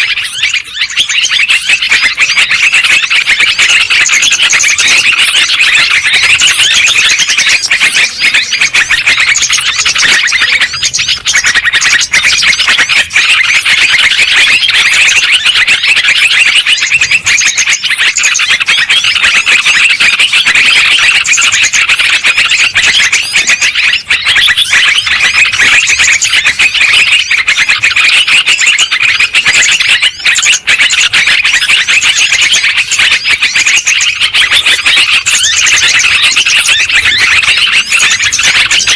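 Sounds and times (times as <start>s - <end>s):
birds chattering calls: 0.0s - 38.9s.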